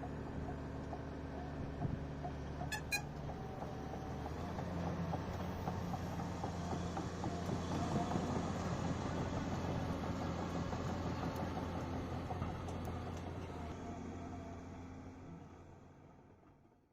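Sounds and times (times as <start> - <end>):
heavy diesel engine rumbling: 0.0 - 16.2.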